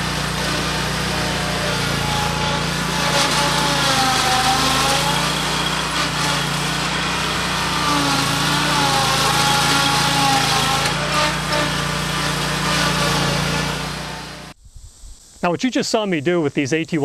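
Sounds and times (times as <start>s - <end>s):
riding mower engine running: 0.0s - 14.6s.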